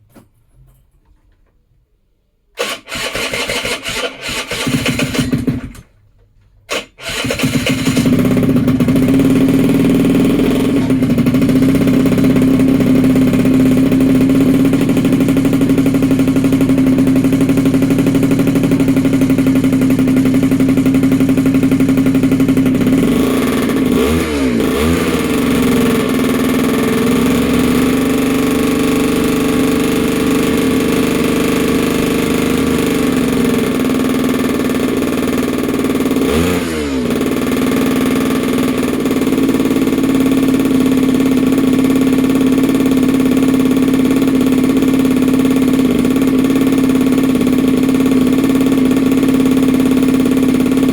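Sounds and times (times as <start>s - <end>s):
small engine idling: 2.6s - 6.0s, 6.7s - 50.9s.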